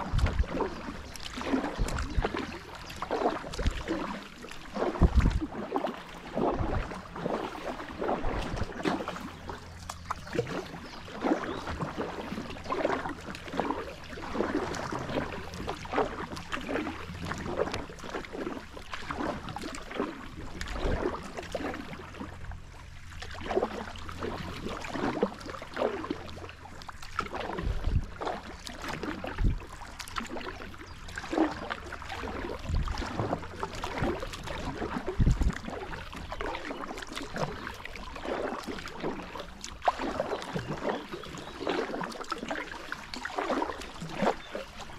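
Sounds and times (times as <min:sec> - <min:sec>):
kayak paddle splashing: 0:00.0 - 0:44.9.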